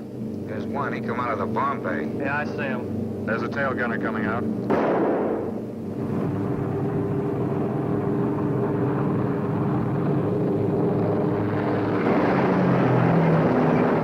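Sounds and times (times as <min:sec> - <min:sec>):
propeller plane engines droning: 0:00.0 - 0:14.0.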